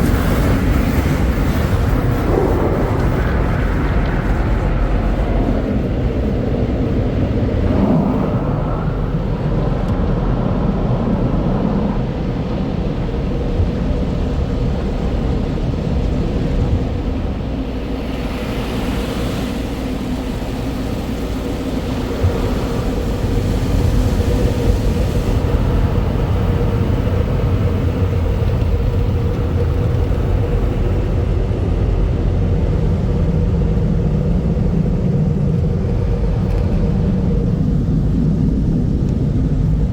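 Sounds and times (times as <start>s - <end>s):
car wash rumble and hum: 0.0s - 39.9s.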